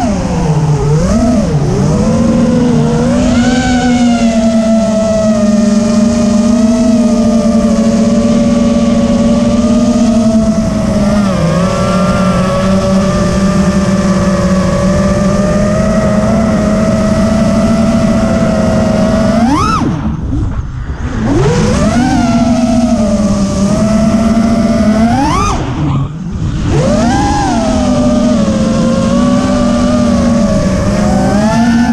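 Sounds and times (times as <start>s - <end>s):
quadcopter motors buzzing: 0.0s - 31.9s.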